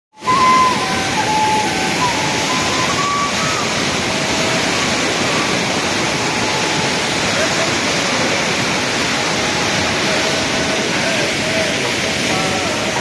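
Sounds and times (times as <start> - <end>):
faint melody of held notes: 0.2 - 13.0
rushing river roar: 0.2 - 13.0.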